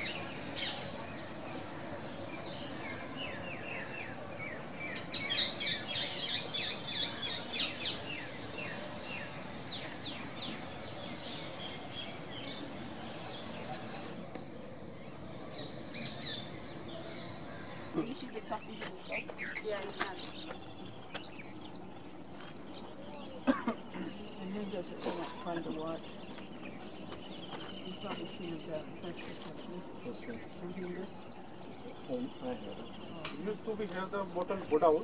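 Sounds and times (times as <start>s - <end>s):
birds chirping: 0.0s - 35.0s
steady outdoor hiss: 0.0s - 35.0s.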